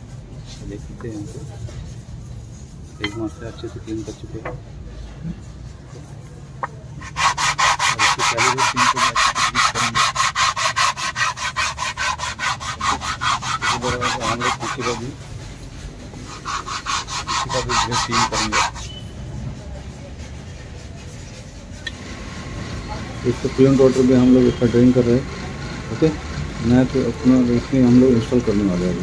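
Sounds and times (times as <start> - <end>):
sandpaper rubbing metal: 0.0 - 4.5, 5.4 - 21.9, 23.4 - 25.1, 26.9 - 29.0.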